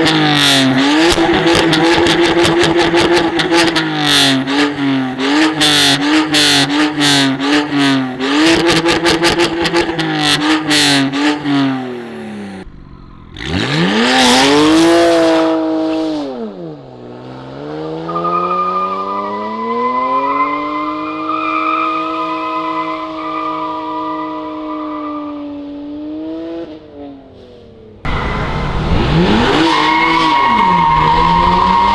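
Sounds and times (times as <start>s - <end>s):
car engine revving with crackling: 0.0s - 26.8s, 28.1s - 31.9s.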